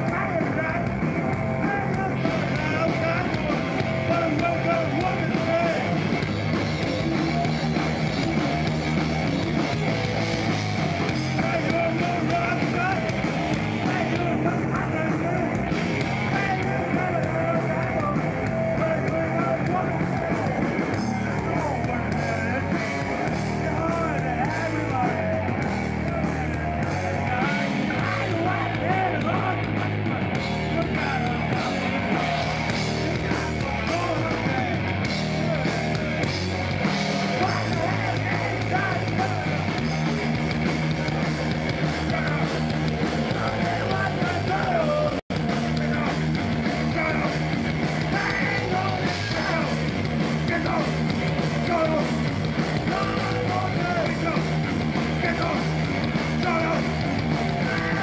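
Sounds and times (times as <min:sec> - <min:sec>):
bass guitar: 0:00.0 - 0:58.0
electric guitar: 0:00.0 - 0:58.0
man singing: 0:00.0 - 0:58.0.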